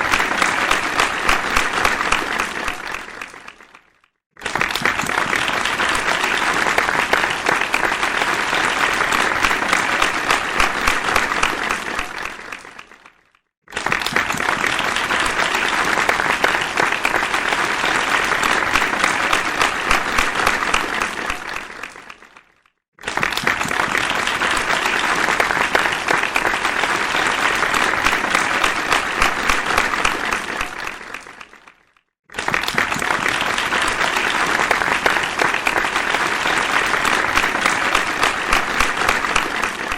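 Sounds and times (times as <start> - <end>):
crowd applauding: 0.0 - 39.9.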